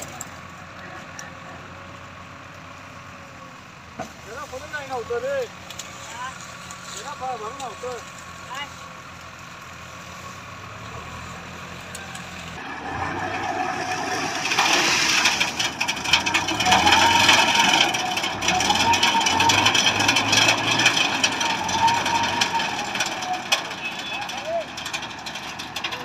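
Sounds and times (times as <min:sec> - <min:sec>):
harvester engine droning: 0:00.0 - 0:26.0.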